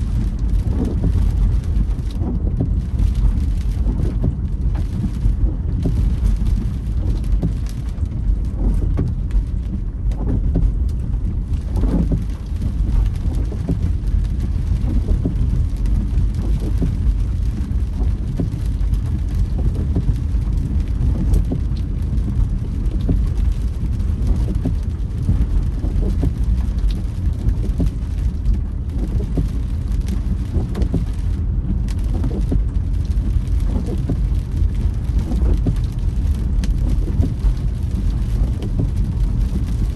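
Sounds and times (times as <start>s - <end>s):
car road and engine rumble: 0.0s - 39.9s
raindrops ticking on car: 0.0s - 39.9s.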